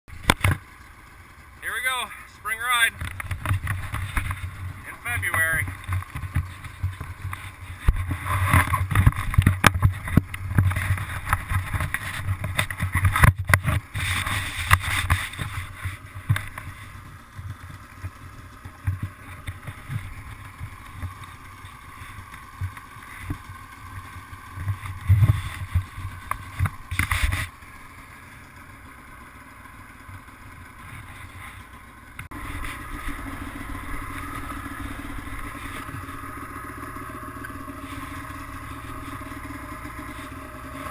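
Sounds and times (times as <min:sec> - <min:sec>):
snowmobile engine idling: 0:00.1 - 0:40.9.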